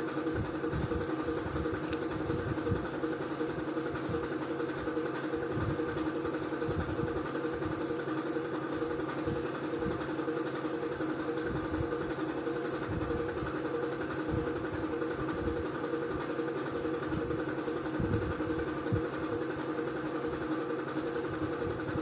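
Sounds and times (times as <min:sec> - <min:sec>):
constant mechanical hum: 0:00.0 - 0:22.0.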